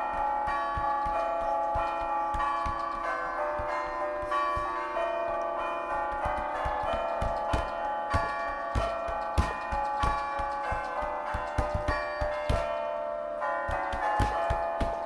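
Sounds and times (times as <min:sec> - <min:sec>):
tower bells ringing a tune: 0:00.0 - 0:15.0.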